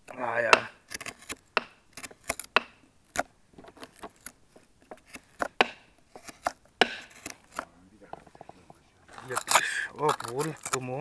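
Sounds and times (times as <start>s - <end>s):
knife shaving dry wood: 0.1s - 7.7s, 9.2s - 11.0s.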